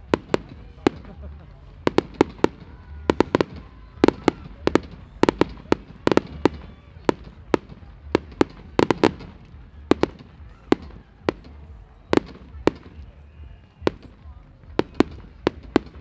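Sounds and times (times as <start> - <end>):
fireworks popping and cracking: 0.0 - 16.0.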